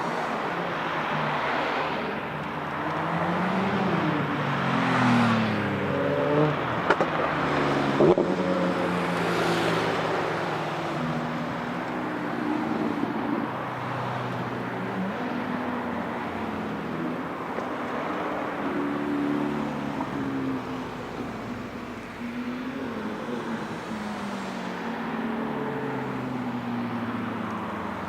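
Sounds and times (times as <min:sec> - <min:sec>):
sports car engines passing by: 0:00.0 - 0:28.0.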